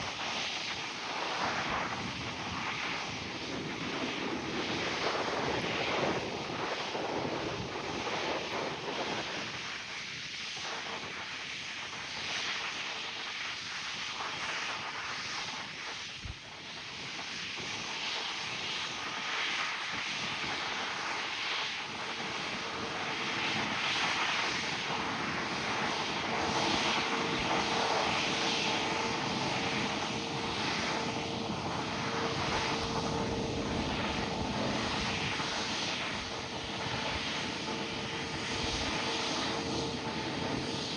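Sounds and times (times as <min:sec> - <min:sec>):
jet engine roar: 0:00.0 - 0:40.9
jet engine whine: 0:00.0 - 0:40.9.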